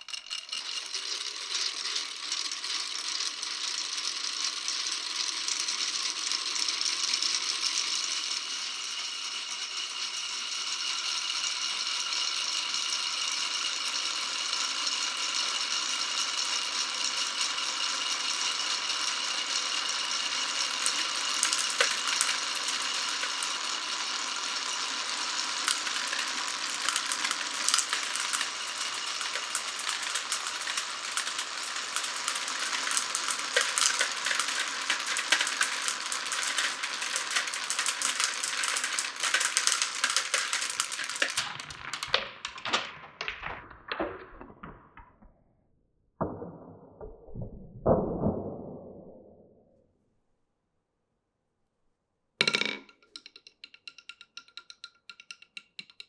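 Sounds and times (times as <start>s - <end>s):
marbles rolling on tracks: 0.0s - 45.3s, 52.4s - 55.9s.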